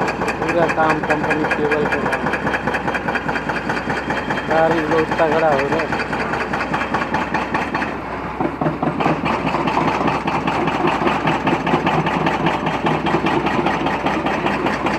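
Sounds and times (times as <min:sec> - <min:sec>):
engine idling with fast pulsing: 0:00.0 - 0:14.9.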